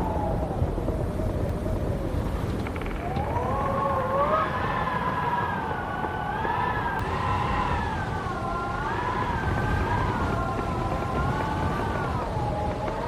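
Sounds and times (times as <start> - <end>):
wind howling: 0.0 - 13.0.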